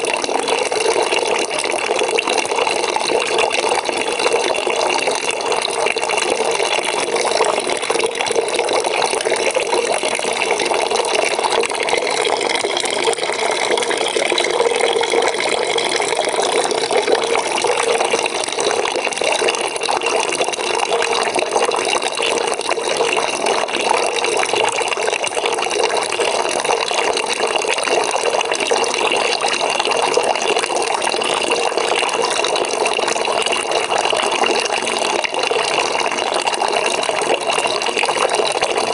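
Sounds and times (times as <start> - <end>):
water pouring into a bucket: 0.0 - 38.9.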